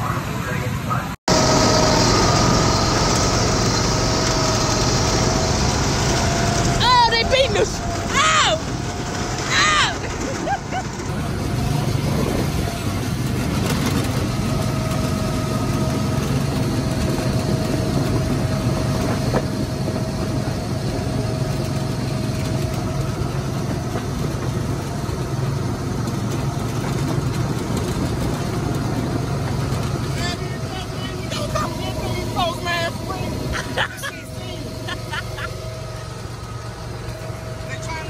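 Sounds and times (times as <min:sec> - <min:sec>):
go-kart engine running: 0:01.3 - 0:38.0.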